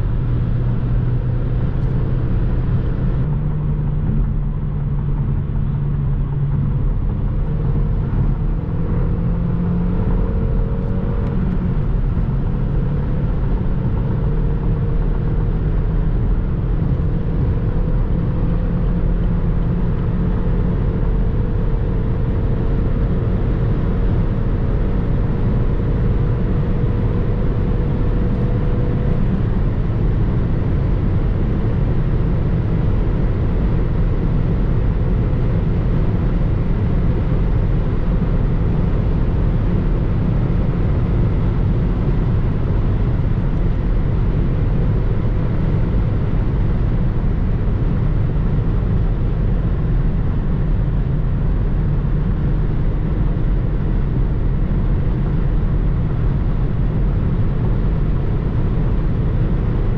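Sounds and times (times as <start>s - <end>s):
car engine running: 0.0s - 59.9s
wind and road noise: 0.0s - 59.9s.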